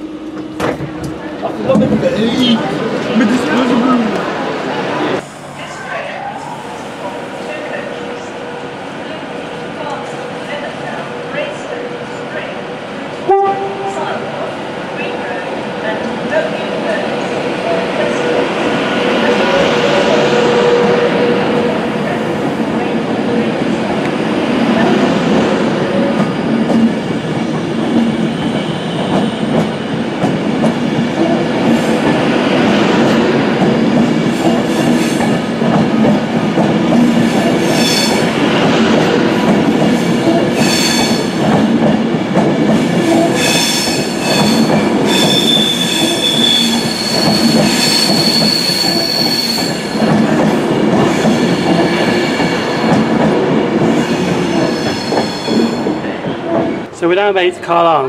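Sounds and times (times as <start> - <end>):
electric train passing: 0.0 - 57.7.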